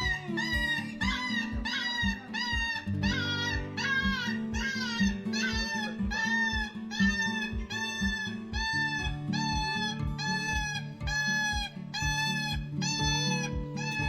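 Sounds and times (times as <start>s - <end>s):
background music with beat: 0.0s - 14.0s.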